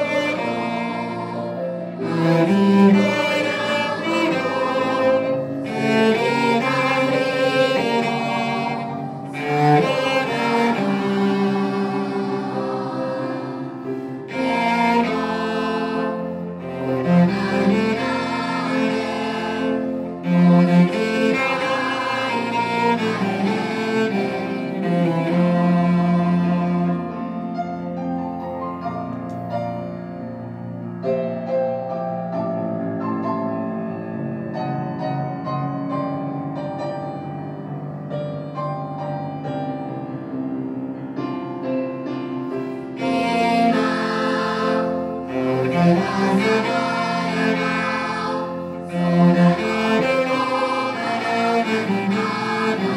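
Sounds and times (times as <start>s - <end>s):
bowed cello melody: 0.0s - 52.9s.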